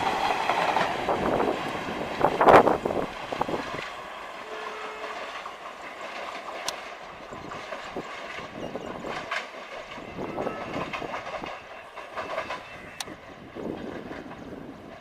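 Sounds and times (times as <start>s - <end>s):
train wheels clattering over joints: 0.0s - 15.0s.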